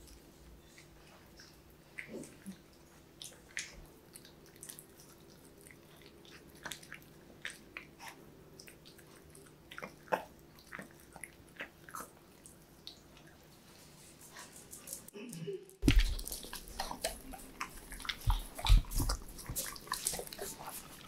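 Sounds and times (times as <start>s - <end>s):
puppy chewing food: 0.0s - 15.2s, 15.8s - 21.0s.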